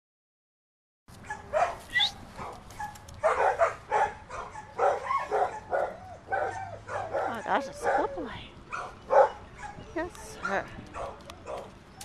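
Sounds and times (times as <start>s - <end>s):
dog barking and yipping: 1.2s - 12.0s.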